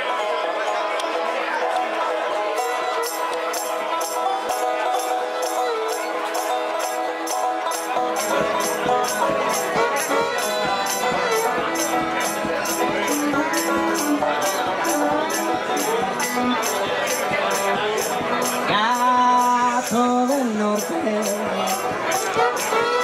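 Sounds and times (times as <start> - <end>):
banjo picking: 0.0 - 23.0
shaken percussion: 3.0 - 23.0.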